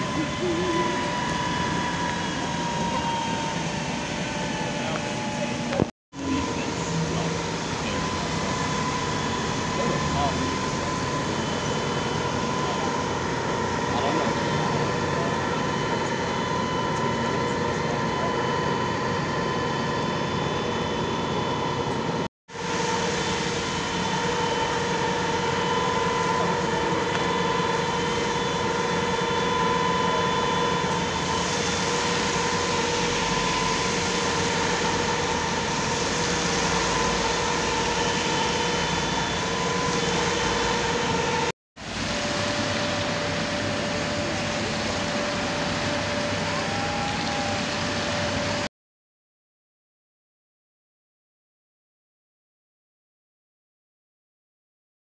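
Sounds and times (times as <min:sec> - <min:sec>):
constant hum: 0:00.0 - 0:48.6
fire engines running: 0:00.0 - 0:48.7.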